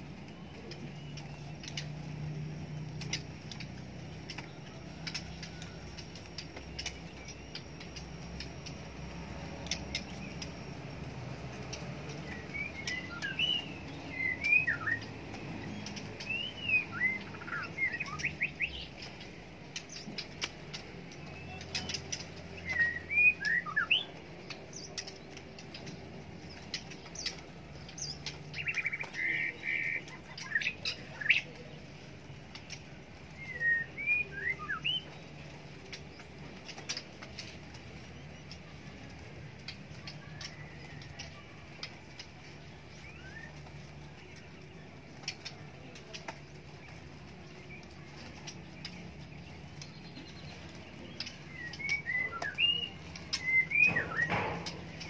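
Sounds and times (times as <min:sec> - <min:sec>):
birds whistling chirps: 0:00.0 - 0:55.0.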